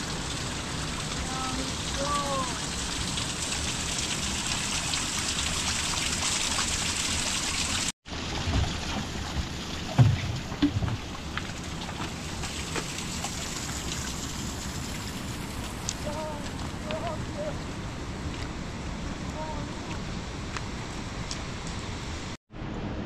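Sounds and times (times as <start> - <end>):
trickling water: 0.0 - 21.8
steady rain: 0.0 - 22.4.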